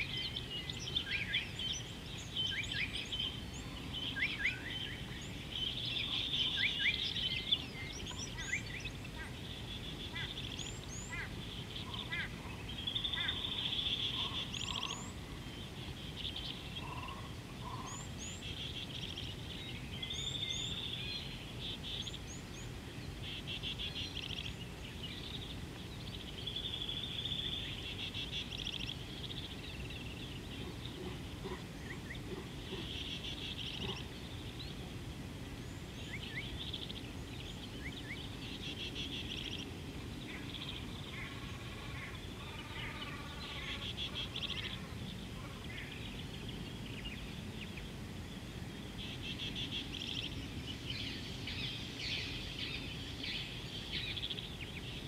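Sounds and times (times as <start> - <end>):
birds calling with buzzy trills: 0.0 - 55.0.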